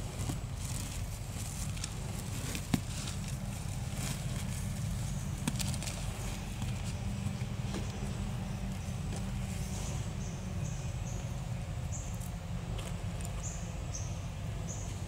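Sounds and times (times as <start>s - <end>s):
grass rustling: 0.0s - 14.0s
steady low rumble: 0.0s - 15.0s.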